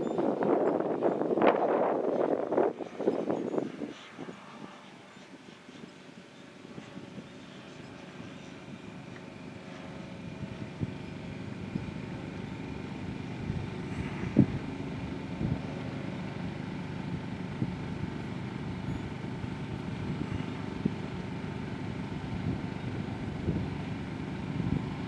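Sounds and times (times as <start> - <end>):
distant model plane motor whine: 0.0 - 25.0.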